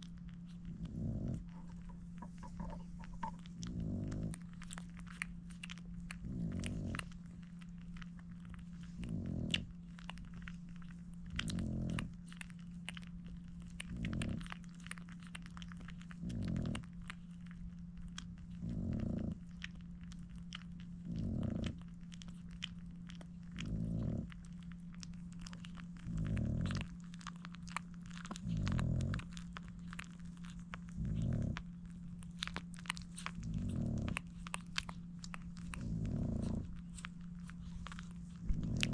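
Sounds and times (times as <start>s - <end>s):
puppies suckling with wet smacks: 0.0s - 38.9s
steady low hum: 0.0s - 38.9s.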